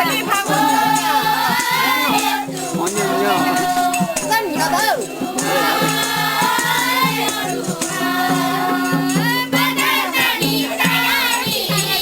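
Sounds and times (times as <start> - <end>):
singing voices: 0.0 - 12.0.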